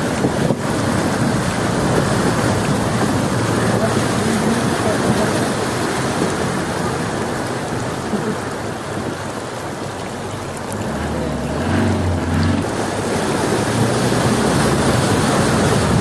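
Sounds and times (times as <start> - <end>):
low engine hum: 0.0 - 16.0
river water rushing: 0.0 - 16.0.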